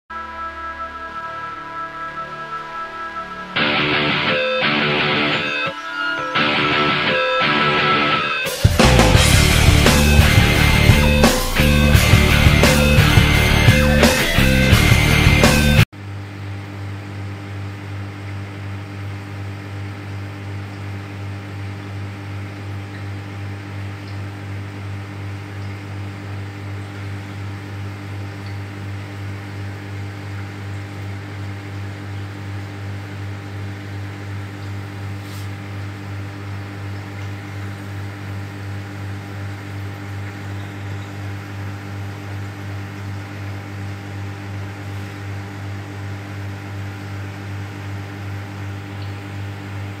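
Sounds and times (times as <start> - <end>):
low electric hum: 8.8 - 50.0.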